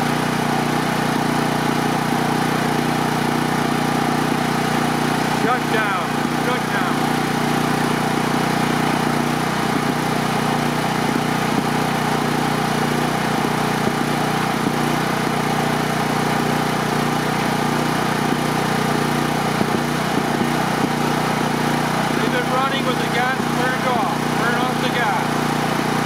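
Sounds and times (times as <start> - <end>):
generator running: 0.0 - 26.0.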